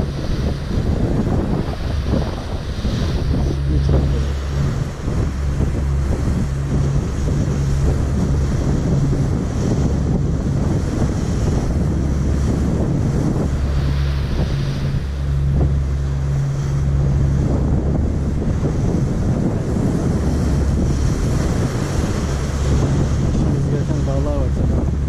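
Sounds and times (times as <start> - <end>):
low engine drone: 0.0 - 25.0
sea rushing: 0.0 - 25.0
wind buffeting microphone: 0.0 - 25.0.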